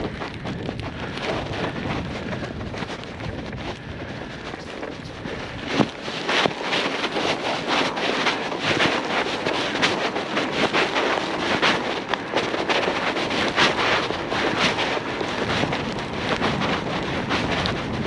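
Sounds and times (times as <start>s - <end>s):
tyres crackling in snow: 0.0s - 18.0s
wind rush: 0.0s - 18.0s.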